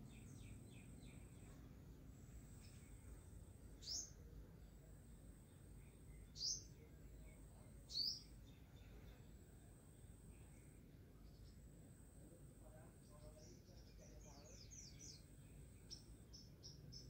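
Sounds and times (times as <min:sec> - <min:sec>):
bird chirping: 0:00.0 - 0:11.8, 0:12.6 - 0:17.0.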